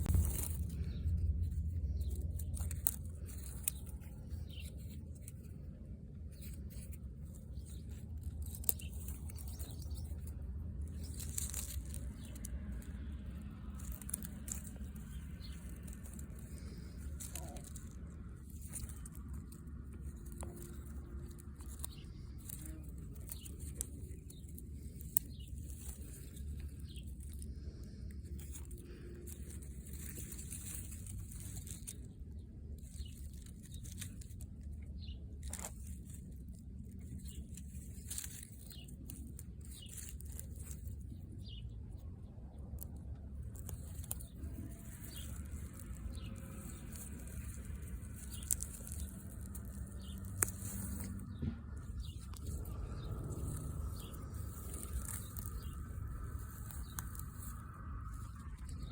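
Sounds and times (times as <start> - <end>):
small birds chirping: 0.0 - 5.7, 6.3 - 58.9
steady low rumble: 0.0 - 58.9.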